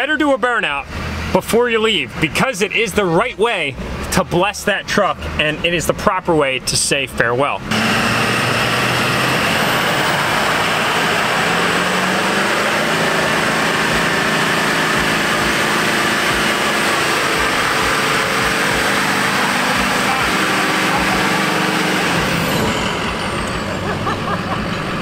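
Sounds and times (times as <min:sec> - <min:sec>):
truck engine running hard: 0:00.0 - 0:25.0
tyres squealing on asphalt: 0:01.0 - 0:25.0.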